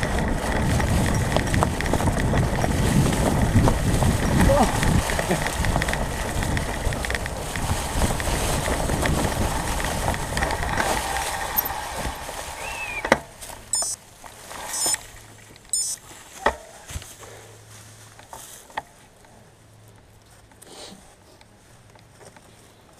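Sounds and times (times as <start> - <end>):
bike tyres rolling over leaves: 0.0 - 22.9
leaves rustling: 0.0 - 22.9.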